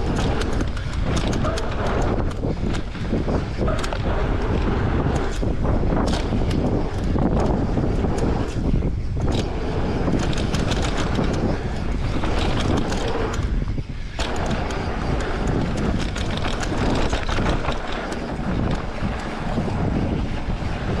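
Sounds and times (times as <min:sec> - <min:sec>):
bike clicks and knocks: 0:00.0 - 0:21.0
wind buffeting microphone: 0:00.0 - 0:21.0.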